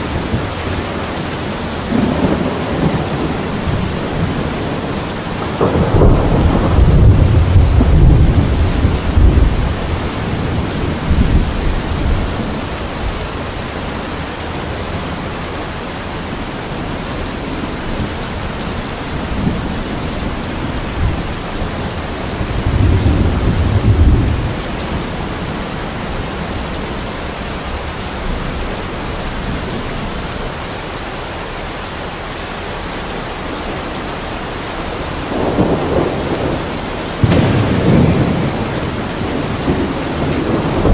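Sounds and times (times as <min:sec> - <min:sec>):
thunder rumbling: 0:00.0 - 0:30.5, 0:34.8 - 0:40.9
heavy rain falling: 0:00.0 - 0:40.9.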